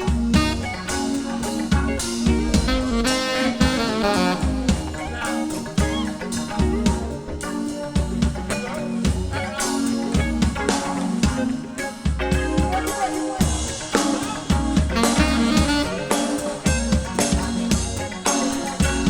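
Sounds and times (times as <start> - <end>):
electric guitar bending notes: 0.0 - 19.0
live blues band playing: 0.0 - 19.0.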